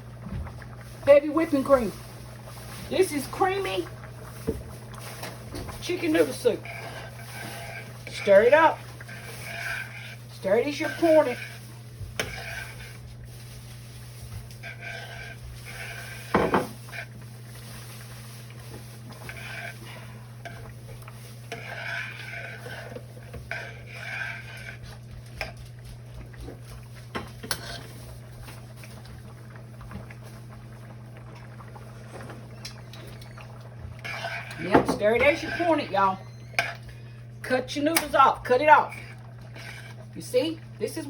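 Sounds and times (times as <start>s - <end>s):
steady low hum: 0.0s - 41.0s
spoon stirring in pot: 0.5s - 41.0s.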